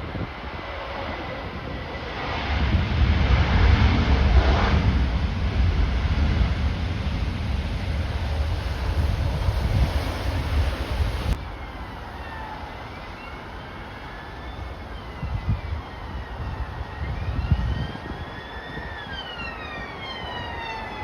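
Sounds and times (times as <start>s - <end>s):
jet airliner engine noise: 0.0s - 21.0s
wind buffeting microphone: 0.0s - 21.0s.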